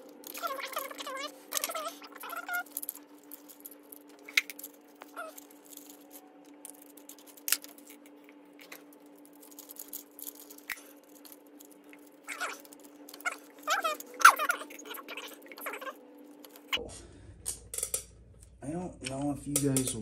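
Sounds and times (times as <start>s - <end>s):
metal parts clicking and rattling: 0.0s - 16.8s, 19.5s - 20.0s
steady low hum: 0.0s - 20.0s.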